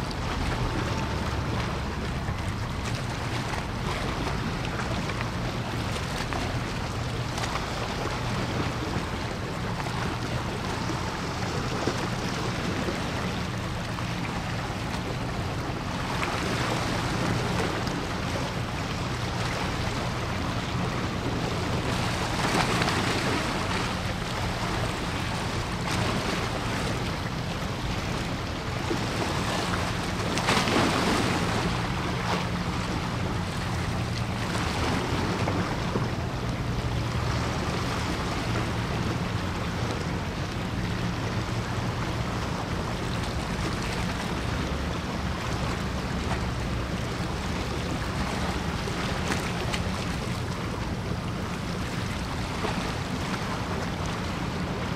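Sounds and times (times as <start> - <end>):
water noise: 0.0 - 54.9
wind: 0.0 - 54.9.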